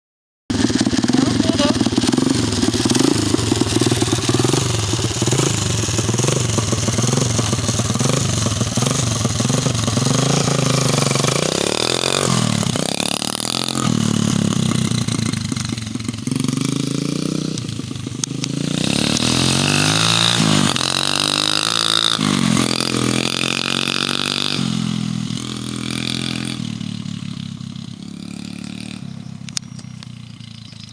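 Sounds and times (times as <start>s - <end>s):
dirt bike engine revving: 0.5s - 29.3s.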